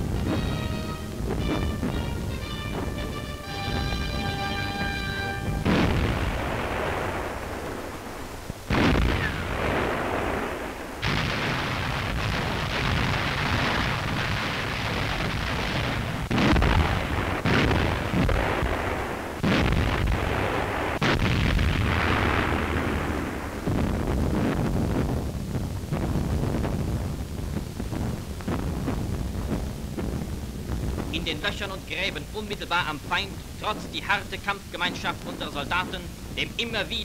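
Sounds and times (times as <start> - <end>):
continuous rumble of gunfire: 0.0 - 37.0
heavy artillery bangs: 0.0 - 37.0.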